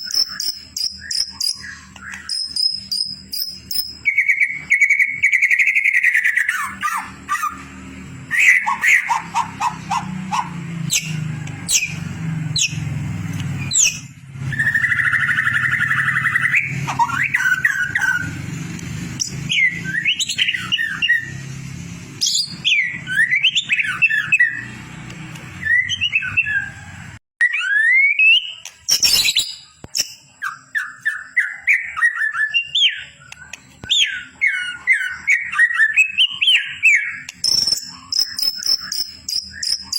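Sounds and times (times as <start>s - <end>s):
bird singing whistled phrases: 0.0s - 7.7s, 8.3s - 12.0s, 13.6s - 18.4s, 19.2s - 21.4s, 22.2s - 24.8s, 27.4s - 39.9s.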